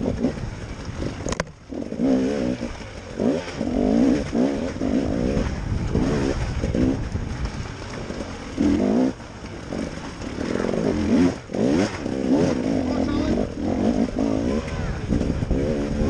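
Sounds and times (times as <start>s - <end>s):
motorcycle engine revving: 0.0s - 16.0s
rumbling background: 0.0s - 16.0s.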